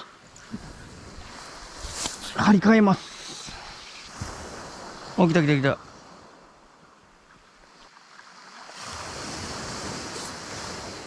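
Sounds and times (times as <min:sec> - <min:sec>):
wind blowing across microphone: 0:00.0 - 0:07.2, 0:08.8 - 0:11.0
surf washing on shore: 0:00.0 - 0:11.0.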